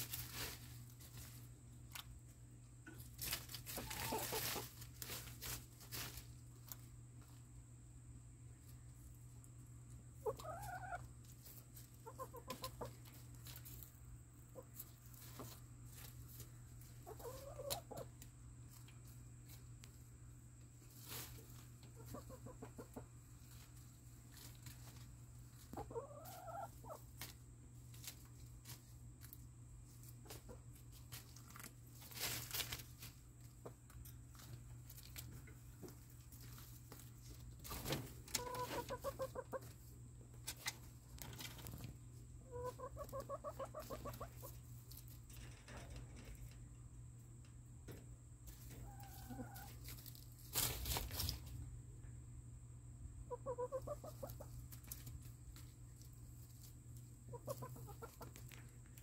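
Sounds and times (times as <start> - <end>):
hens clucking: 0.0 - 7.6, 8.6 - 45.3, 46.4 - 51.6, 53.2 - 59.0.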